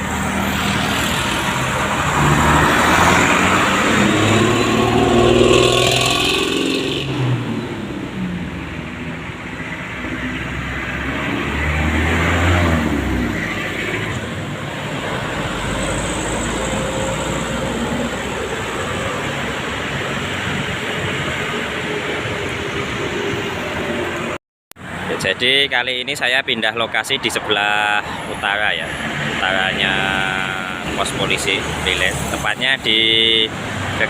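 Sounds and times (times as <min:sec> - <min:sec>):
traffic passing: 0:00.0 - 0:34.0.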